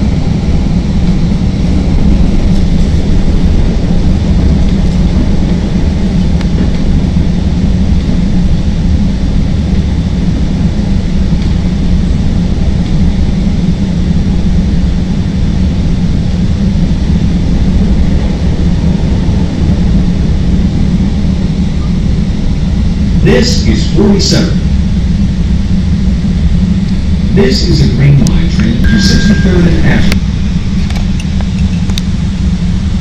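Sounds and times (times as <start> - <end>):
low hum: 0.0 - 33.0
train wheels rumbling on rails: 0.0 - 33.0.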